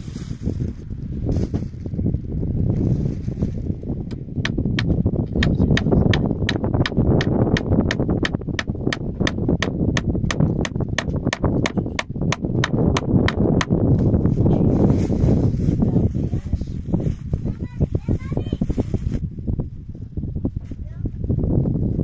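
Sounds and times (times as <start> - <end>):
low rumbling noise: 0.0 - 22.0.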